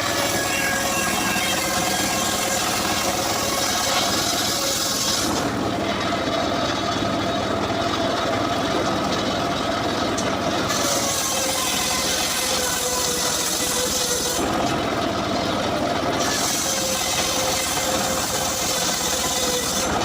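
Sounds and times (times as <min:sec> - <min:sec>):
circular saw cutting wood: 0:00.0 - 0:20.0
engine running: 0:00.0 - 0:20.0.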